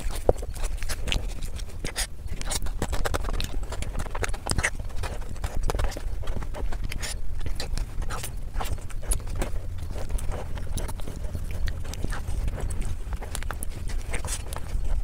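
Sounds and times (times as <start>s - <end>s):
person chewing wetly: 0.0s - 15.0s.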